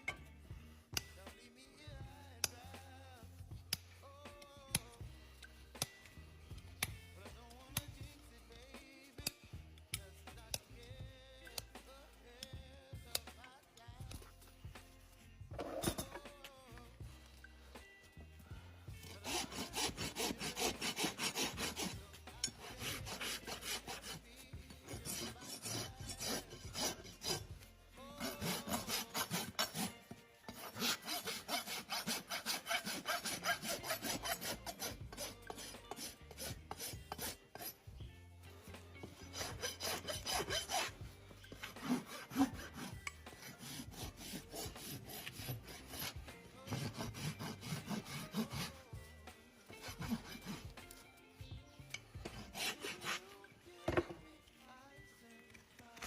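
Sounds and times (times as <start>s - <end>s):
rasp filing a hoof: 4.7s - 5.0s, 5.8s - 13.4s, 14.0s - 16.8s, 18.9s - 54.2s.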